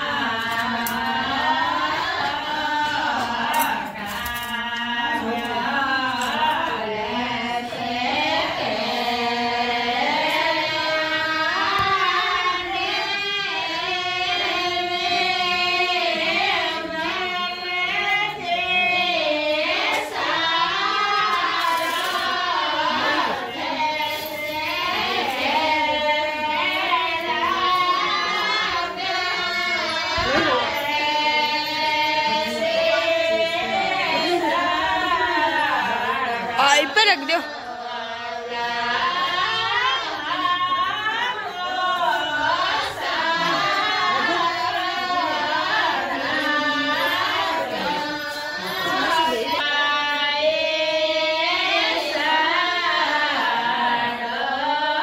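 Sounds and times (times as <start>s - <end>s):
women singing: 0.0s - 55.0s.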